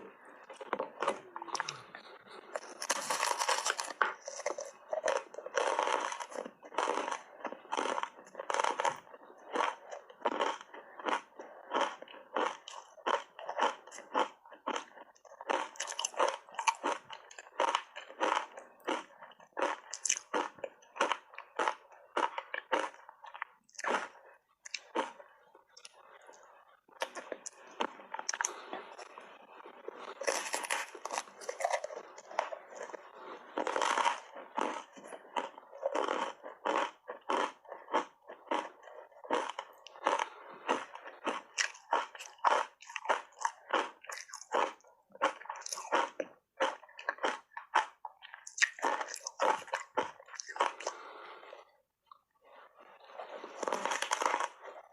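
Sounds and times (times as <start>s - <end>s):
ice bars crunching when chewed: 0.1s - 52.2s, 52.9s - 54.9s.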